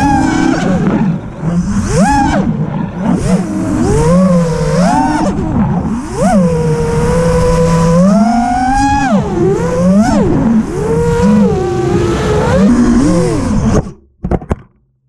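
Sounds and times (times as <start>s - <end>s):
quadcopter motors whining: 0.0s - 13.9s.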